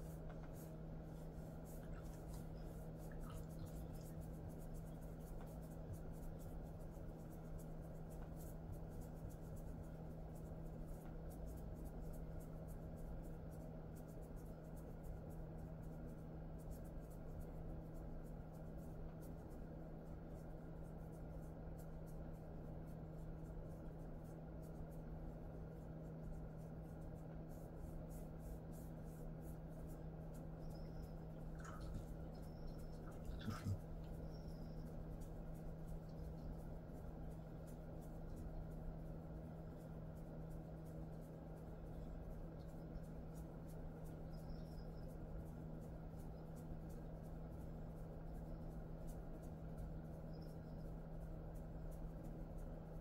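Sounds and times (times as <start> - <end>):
fingers scratching dog fur: 0.0 - 53.0
steady low hum: 0.0 - 53.0.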